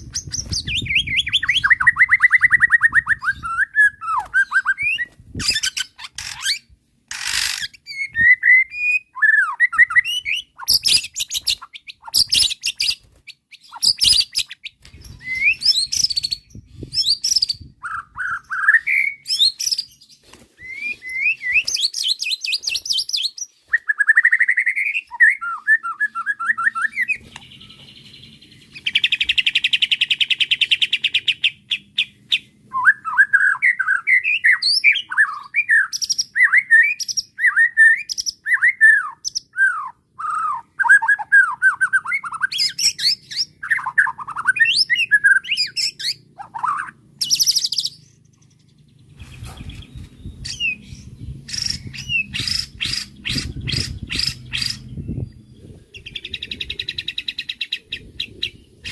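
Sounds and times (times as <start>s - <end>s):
bird singing: 0.0s - 58.9s.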